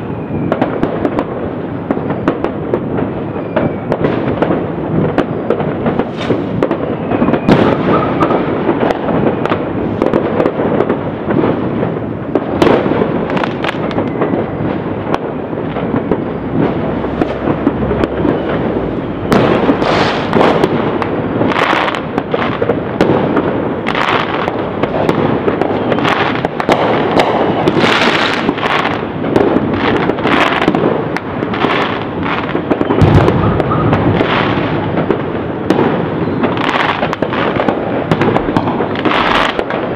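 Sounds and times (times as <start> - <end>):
fireworks crackling and popping: 0.0 - 39.9
loud firework bangs: 0.0 - 39.9.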